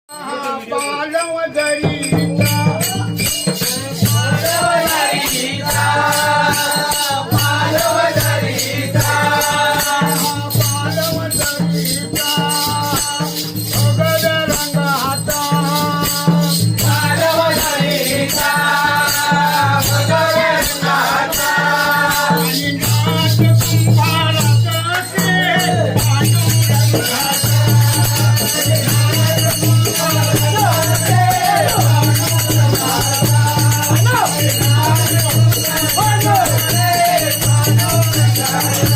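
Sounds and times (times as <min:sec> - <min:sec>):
elderly man singing: 0:00.1 - 0:38.9
fast percussion beat: 0:00.1 - 0:38.9.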